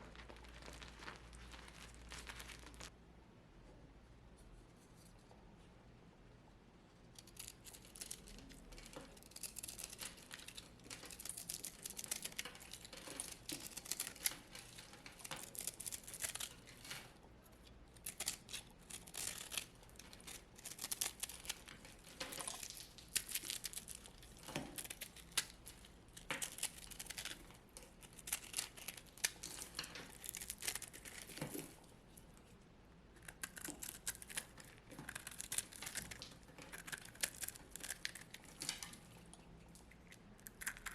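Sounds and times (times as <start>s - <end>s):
dry soap crackling and crumbling: 0.0s - 3.0s, 7.2s - 40.9s.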